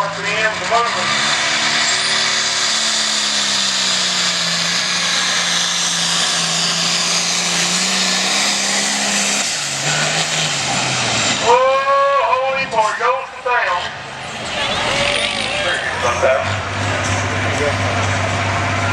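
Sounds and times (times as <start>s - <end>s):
engine running at full throttle: 0.0s - 18.9s.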